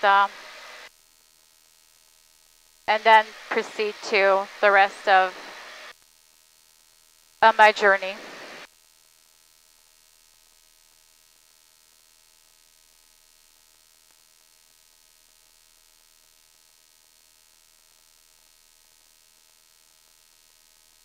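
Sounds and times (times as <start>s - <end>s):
faint electrical hum and hiss: 0.0s - 21.0s.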